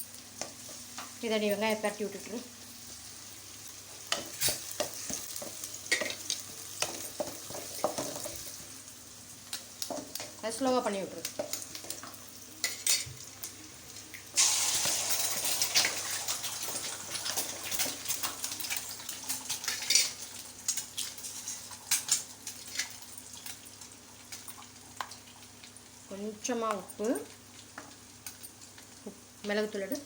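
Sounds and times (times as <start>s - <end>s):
hot oil sizzling in a pan: 0.0s - 30.0s.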